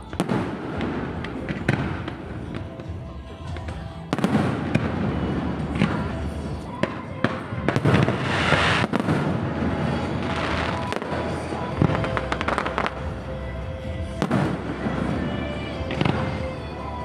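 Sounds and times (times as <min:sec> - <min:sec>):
fireworks booming: 0:00.0 - 0:13.2, 0:14.1 - 0:16.6
background music: 0:00.0 - 0:17.0
fireworks crackling: 0:00.0 - 0:17.0.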